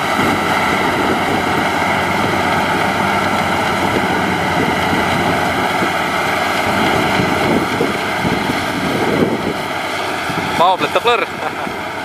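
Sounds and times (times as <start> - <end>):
combine harvester running: 0.0 - 12.0
steady high whine: 0.0 - 12.0.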